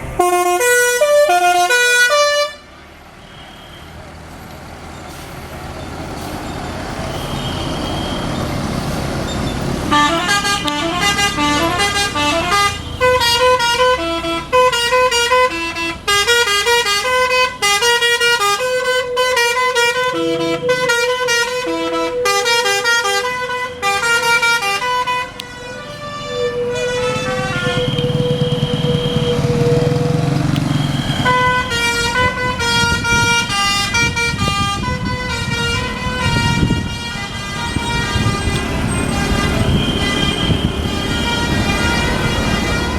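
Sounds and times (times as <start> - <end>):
bus engine running: 0.0 - 3.2, 3.9 - 42.9
multi-note air horn tune: 0.2 - 2.6, 9.9 - 42.9.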